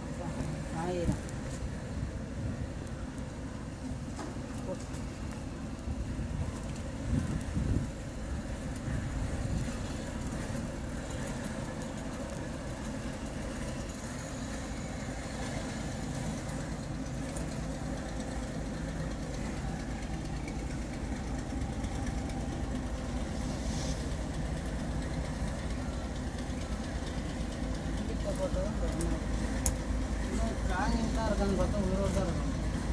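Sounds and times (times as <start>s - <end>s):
boat engine idling: 0.0s - 32.9s.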